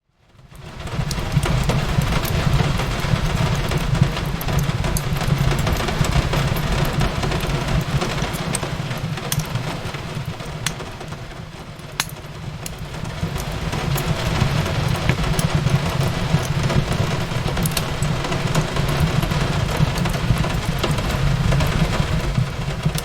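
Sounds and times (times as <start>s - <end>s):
rain on a window: 0.1s - 23.0s
fireplace crackling and popping: 0.4s - 23.0s.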